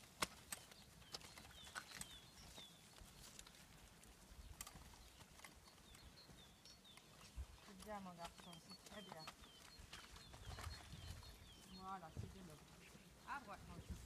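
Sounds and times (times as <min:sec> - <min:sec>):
horse hooves on muddy grass: 0:00.0 - 0:14.0.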